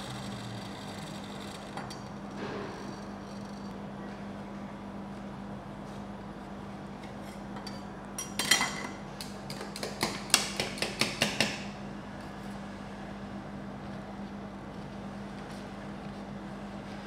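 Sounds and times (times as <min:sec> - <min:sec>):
steady low hum: 0:00.0 - 0:10.3, 0:11.6 - 0:17.0.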